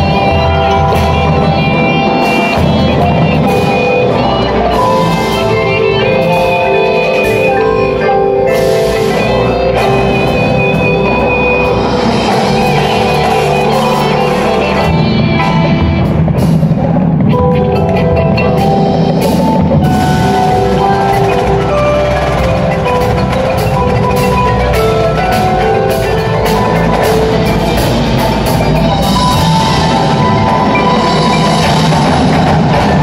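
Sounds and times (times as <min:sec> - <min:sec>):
marching drums: 0:00.0 - 0:33.0
marimbas and mallet keyboards: 0:00.0 - 0:33.0
sustained pitched tones: 0:00.0 - 0:33.0.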